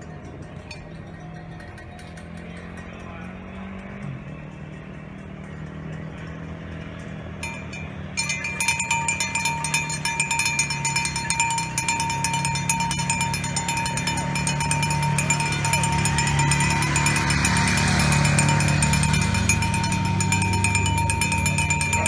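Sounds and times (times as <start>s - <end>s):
cowbells clanging: 0.0s - 22.0s
motorcycles at low speed: 0.0s - 22.0s.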